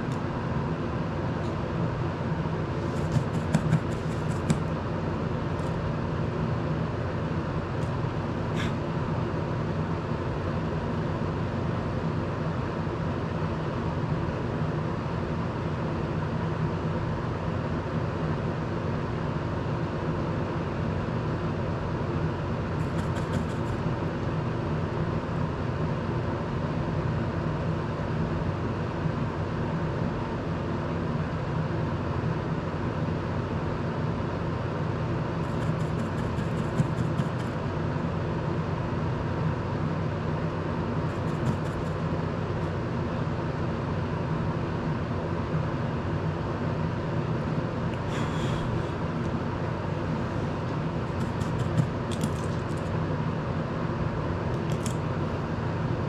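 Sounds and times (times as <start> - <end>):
desk fan humming: 0.0 - 56.0.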